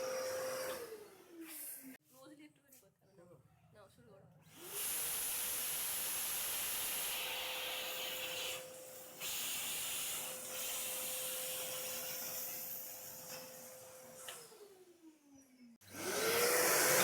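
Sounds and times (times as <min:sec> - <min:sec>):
vacuum motor whine: 0:00.0 - 0:01.9, 0:04.6 - 0:17.0.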